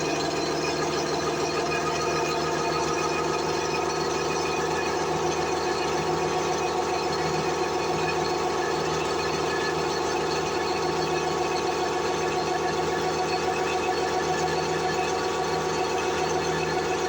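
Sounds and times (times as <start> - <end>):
machine rattling steadily: 0.0 - 17.0.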